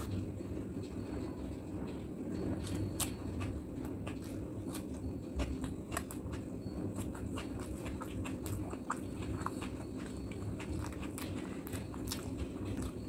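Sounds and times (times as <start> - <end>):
steady low hum: 0.0 - 13.0
wet chewing and mouth smacks: 2.5 - 13.0.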